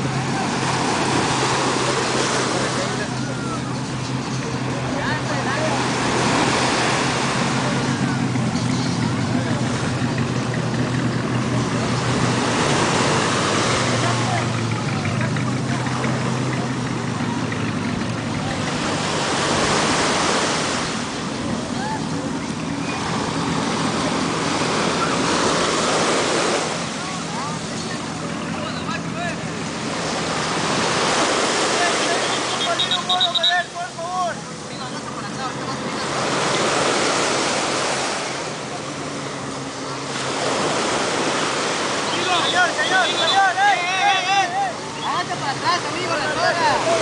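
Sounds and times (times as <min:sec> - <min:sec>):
surf washing up a beach: 0:00.0 - 0:47.0.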